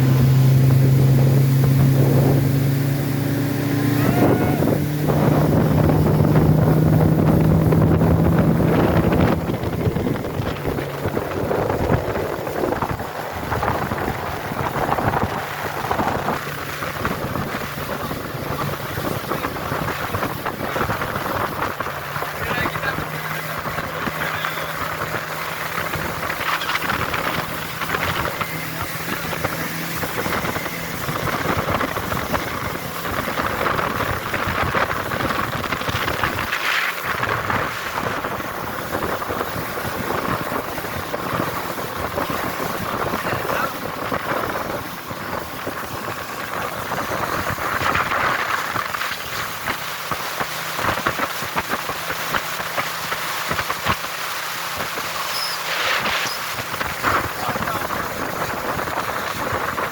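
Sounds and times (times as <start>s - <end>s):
motorboat engine running: 0.0s - 59.9s
rush of wind and water: 0.0s - 59.9s
wind buffeting microphone: 0.0s - 59.9s.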